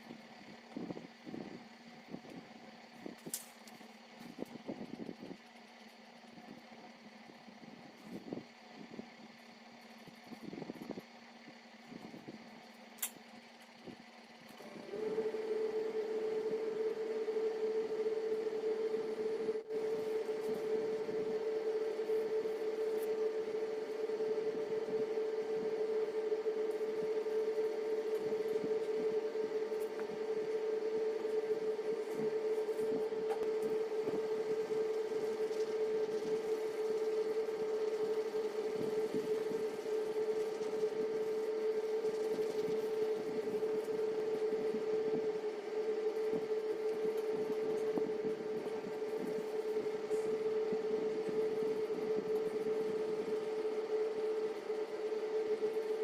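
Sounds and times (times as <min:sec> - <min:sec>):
steady mid-pitch hum: 0:00.0 - 0:56.0.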